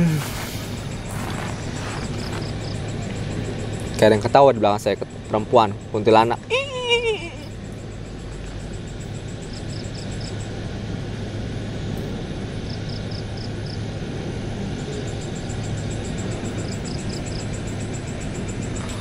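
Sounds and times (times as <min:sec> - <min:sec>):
low rumble and hiss: 0:00.0 - 0:19.0.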